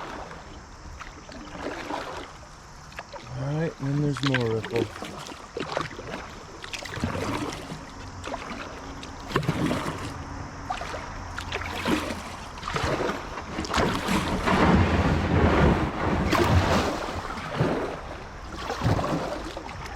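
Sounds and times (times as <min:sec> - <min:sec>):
paddle splashes and knocks: 0:00.0 - 0:19.9
running water: 0:00.0 - 0:19.9.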